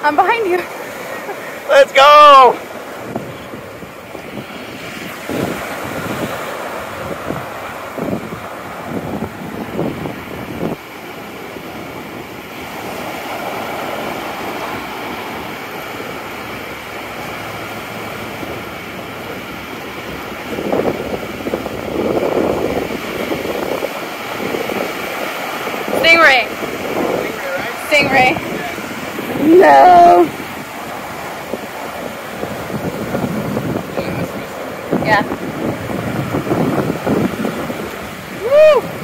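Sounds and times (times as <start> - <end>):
surf breaking: 0.0 - 39.0
wind buffeting microphone: 0.0 - 39.0.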